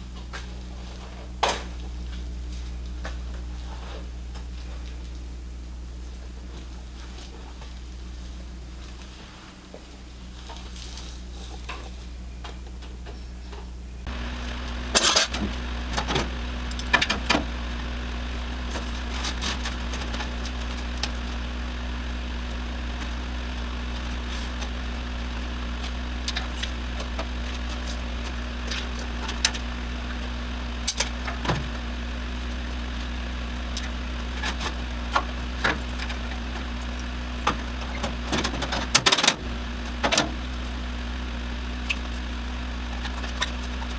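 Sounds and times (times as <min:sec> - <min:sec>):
motor humming: 0:00.0 - 0:43.9.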